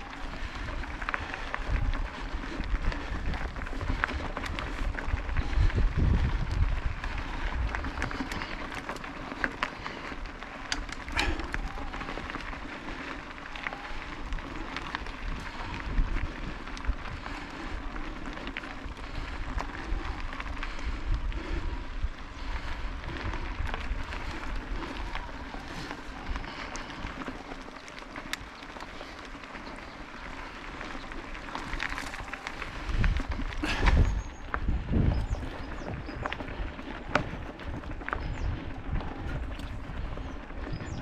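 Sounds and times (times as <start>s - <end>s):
bike tyres rolling on trail: 0.0s - 41.0s.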